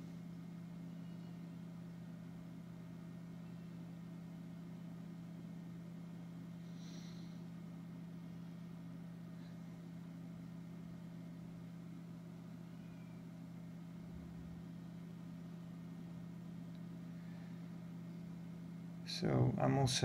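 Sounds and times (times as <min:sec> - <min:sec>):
faint low hum with hiss: 0:00.0 - 0:20.0.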